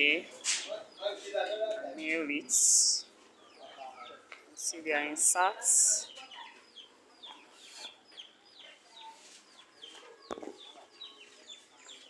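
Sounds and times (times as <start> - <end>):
high chirping of birds: 0.0 - 12.0.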